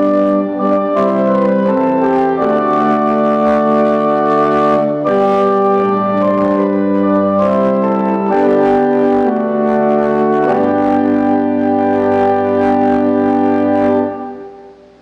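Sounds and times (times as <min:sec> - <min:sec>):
pipe organ chords: 0:00.0 - 0:15.0.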